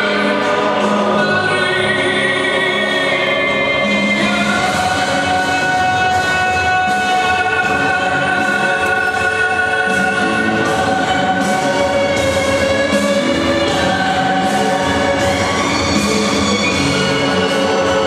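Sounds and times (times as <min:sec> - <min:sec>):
choral singing with held notes: 0:00.0 - 0:18.0.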